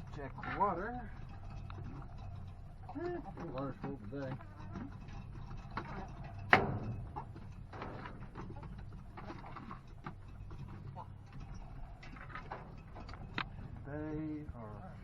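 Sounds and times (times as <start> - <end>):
hens clucking softly: 0.0 - 15.0
hens pecking clicks: 0.0 - 15.0.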